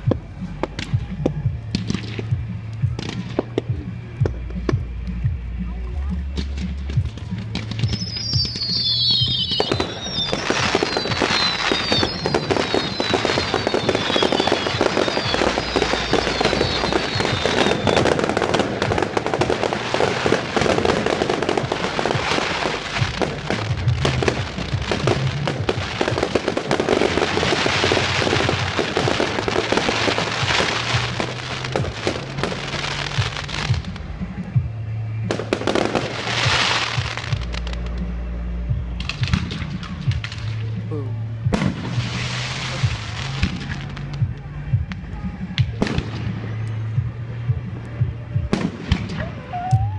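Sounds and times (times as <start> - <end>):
fireworks crackling and banging: 0.0 - 49.9
music with heavy bass: 0.0 - 49.9
whistling fireworks: 6.4 - 49.9.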